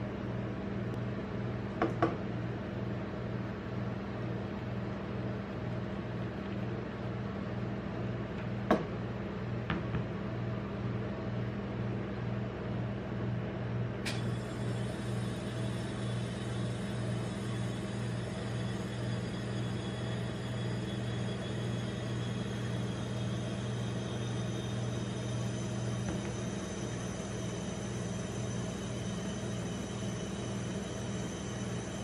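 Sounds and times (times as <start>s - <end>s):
refrigeration compressor humming: 0.0s - 32.0s.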